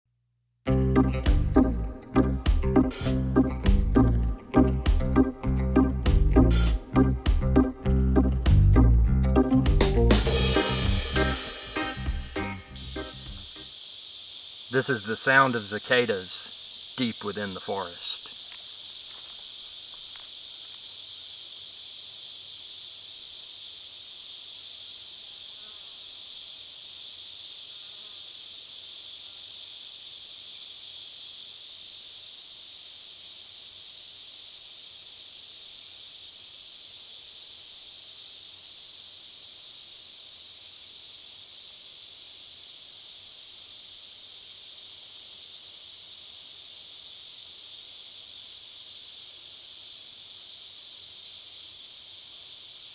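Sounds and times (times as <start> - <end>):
cicadas buzzing: 1.7 - 7.8, 9.4 - 52.9.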